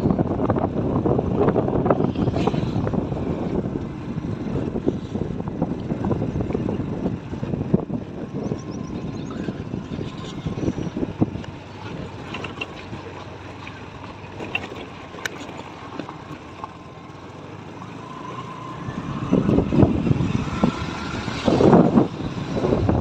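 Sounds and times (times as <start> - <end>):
wind buffeting microphone: 0.0 - 16.9, 17.9 - 23.0
scooter engine running: 0.0 - 23.0
tyre and road noise: 0.0 - 23.0.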